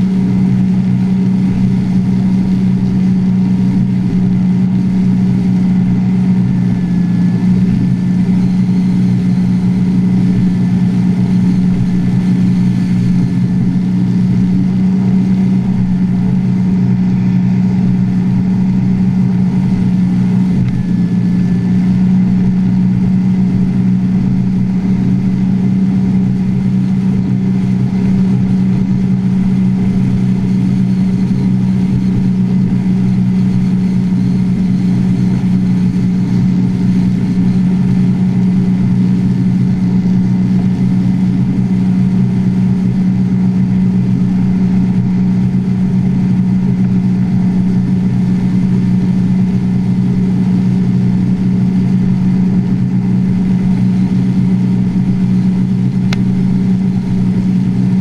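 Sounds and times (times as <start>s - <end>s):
boat engine running steadily: 0.0s - 58.0s.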